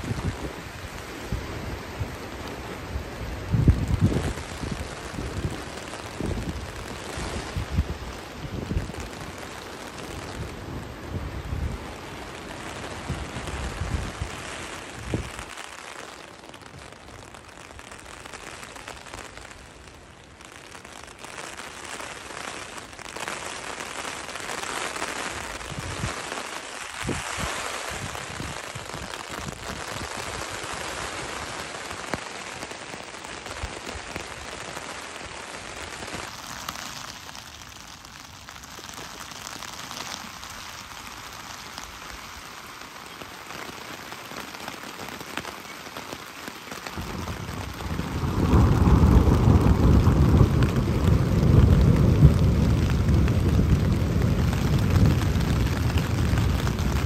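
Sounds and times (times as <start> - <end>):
rain on a tarp: 0.0 - 57.0.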